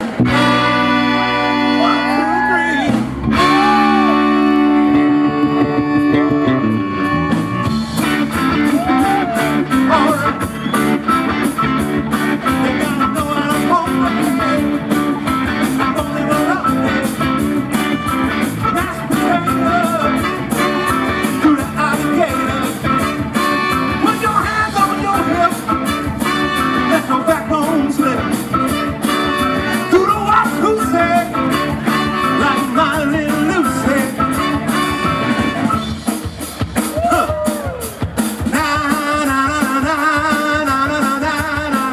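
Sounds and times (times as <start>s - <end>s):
guitar: 0.0s - 41.9s
live rock band playing: 0.0s - 41.9s
person singing: 0.3s - 35.8s, 36.9s - 41.9s.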